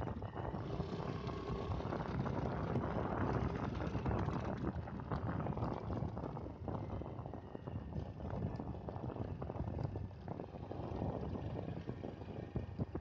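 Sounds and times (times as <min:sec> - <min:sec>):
motorcycle engine rumble: 0:00.0 - 0:13.0
wind buffeting microphone: 0:00.0 - 0:13.0.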